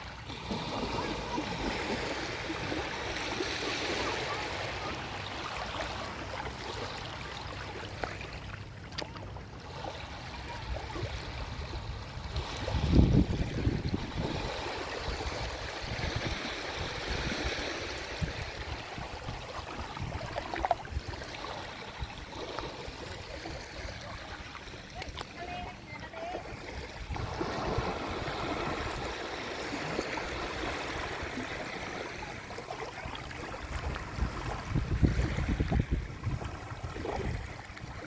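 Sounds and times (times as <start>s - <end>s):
small waves lapping on shore: 0.0s - 38.0s.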